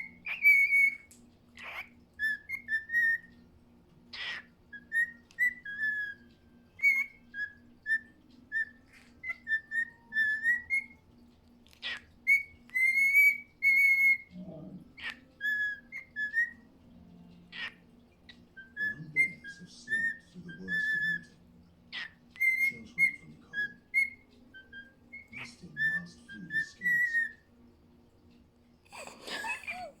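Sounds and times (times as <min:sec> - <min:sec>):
cockatiel whistling: 0:00.0 - 0:03.5, 0:04.1 - 0:11.1, 0:11.8 - 0:14.4, 0:15.0 - 0:16.8, 0:17.5 - 0:27.5.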